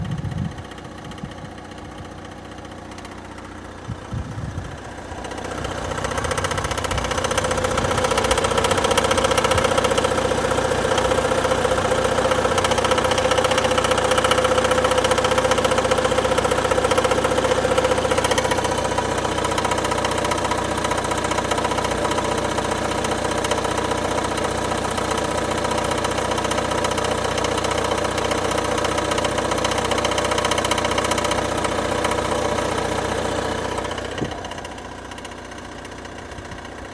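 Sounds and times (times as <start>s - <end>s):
diesel engine idling with knock: 0.0s - 36.9s.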